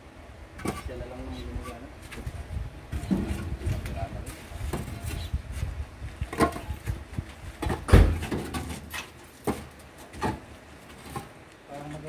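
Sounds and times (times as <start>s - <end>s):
concrete blocks clunking and scraping: 0.6s - 12.0s.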